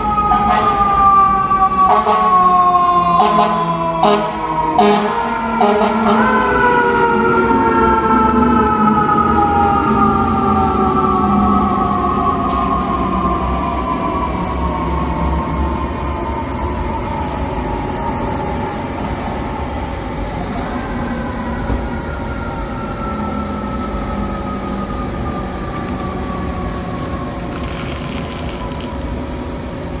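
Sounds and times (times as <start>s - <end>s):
engines rumbling: 0.0s - 30.0s
fire truck siren: 0.0s - 30.0s.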